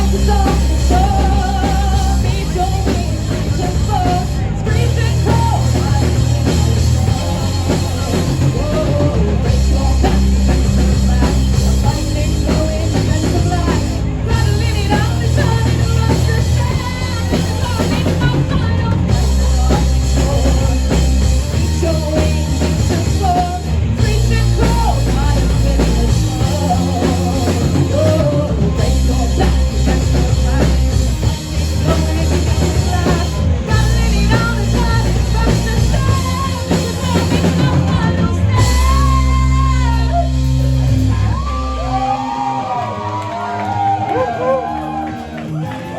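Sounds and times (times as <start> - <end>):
bass guitar notes: 0.0 - 45.9
live rock band playing: 0.0 - 45.9.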